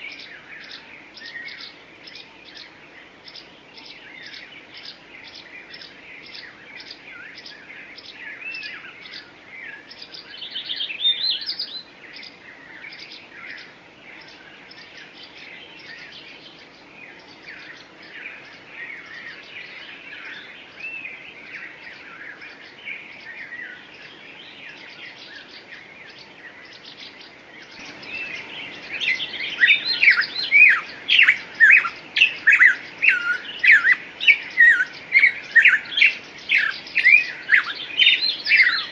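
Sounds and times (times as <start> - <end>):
songbirds chirping in chorus: 0.0 - 38.9.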